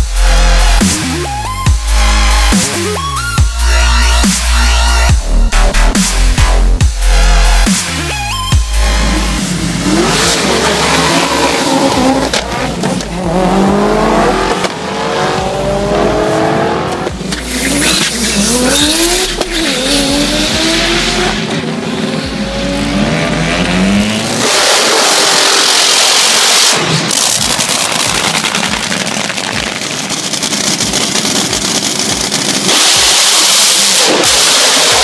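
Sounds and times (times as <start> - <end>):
drag racing cars accelerating: 0.2 - 35.0.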